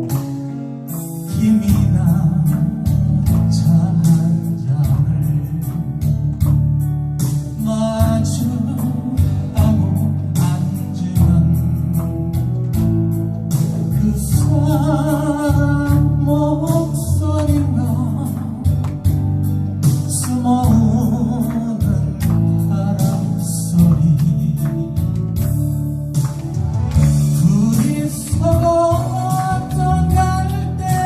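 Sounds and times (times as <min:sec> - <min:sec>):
instrumental accompaniment with beat: 0:00.0 - 0:31.0
person singing: 0:00.9 - 0:06.6, 0:07.5 - 0:13.0, 0:13.7 - 0:19.2, 0:20.0 - 0:25.4, 0:27.0 - 0:31.0.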